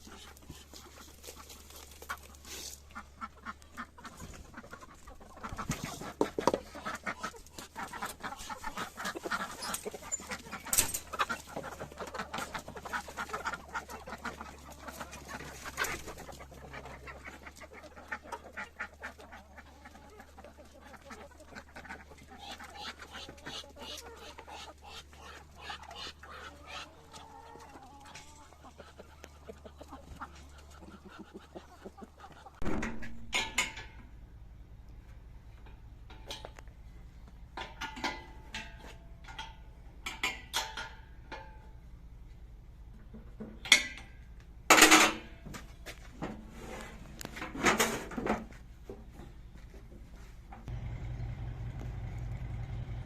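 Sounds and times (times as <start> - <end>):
chickens clucking: 0.0 - 52.8.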